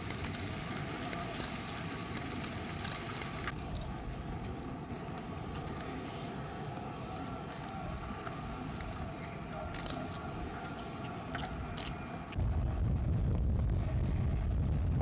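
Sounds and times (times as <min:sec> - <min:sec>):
faint continuous hum: 0:00.0 - 0:15.0
light crackles: 0:00.0 - 0:15.0
steady rushing noise: 0:00.0 - 0:15.0.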